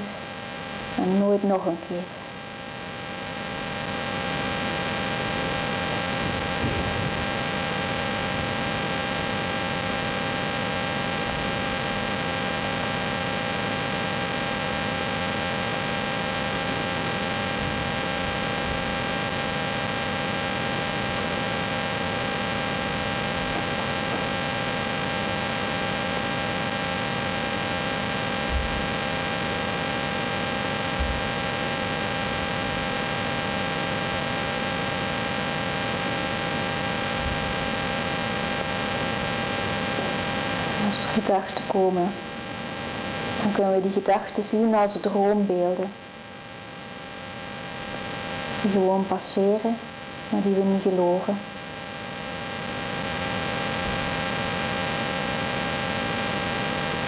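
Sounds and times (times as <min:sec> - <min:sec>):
electrical hiss and hum: 0:00.0 - 0:57.0.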